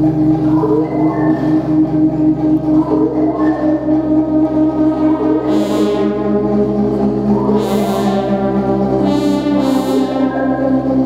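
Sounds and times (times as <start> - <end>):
droning synthesizer tones: 0.0 - 11.0
buzzy horn-like synth swells: 0.6 - 11.0.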